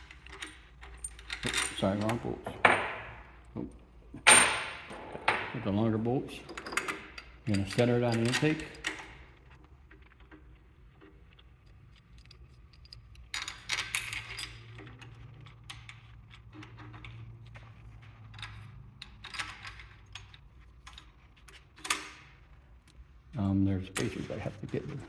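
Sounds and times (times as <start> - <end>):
metal parts clinking and rattling: 0.0 - 3.5, 4.2 - 23.0.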